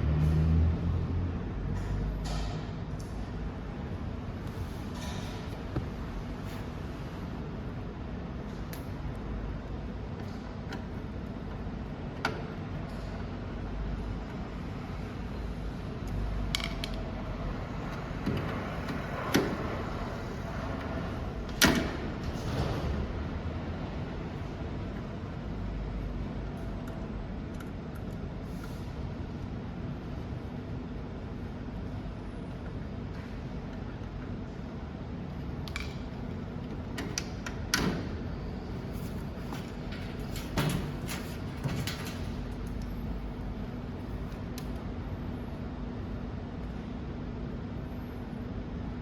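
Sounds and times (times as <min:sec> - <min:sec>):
steady low hum: 0:00.7 - 0:49.0.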